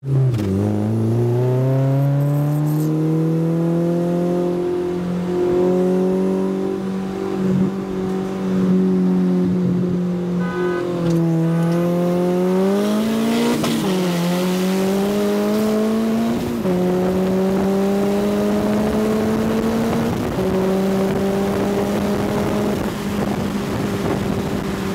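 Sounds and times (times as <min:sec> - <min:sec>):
car engine accelerating hard: 0:00.0 - 0:24.9.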